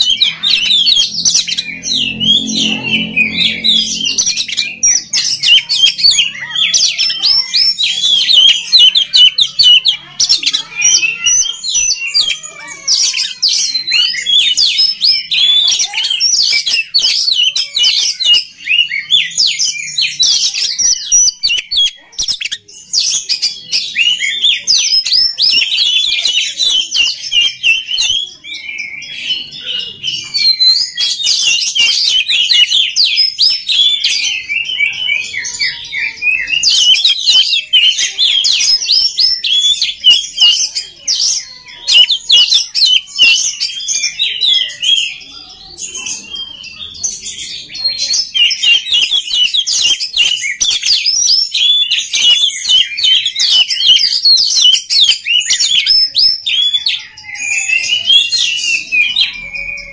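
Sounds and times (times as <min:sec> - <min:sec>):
bird singing chirps and whistles: 0:00.0 - 0:59.9.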